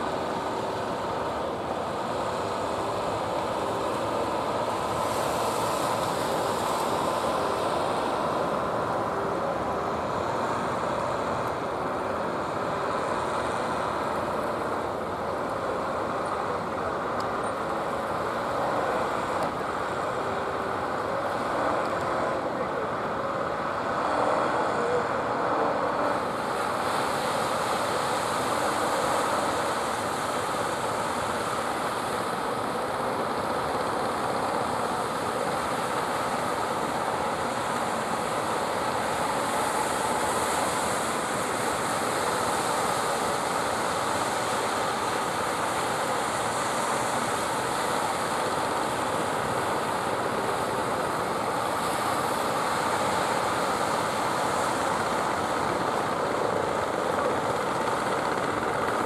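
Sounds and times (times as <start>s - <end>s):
boat engines running: 0.0s - 59.0s
surf rushing: 0.0s - 59.0s.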